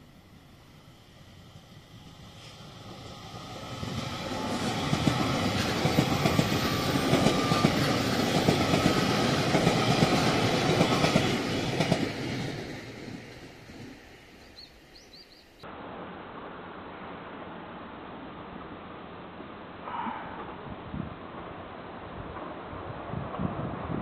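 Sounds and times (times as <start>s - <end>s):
train passing: 0.0s - 24.0s.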